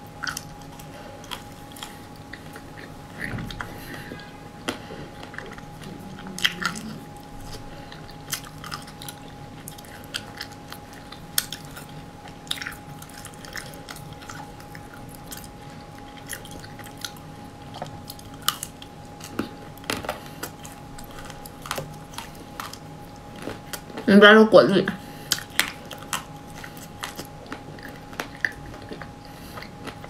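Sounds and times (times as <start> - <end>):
chewing crunchy ice cream coating: 0.0 - 24.1, 25.0 - 30.0.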